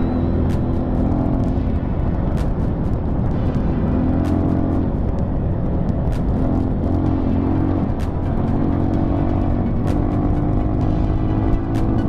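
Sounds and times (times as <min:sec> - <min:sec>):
dirt bike engine running: 0:00.0 - 0:12.0
wind noise on microphone: 0:00.0 - 0:12.0.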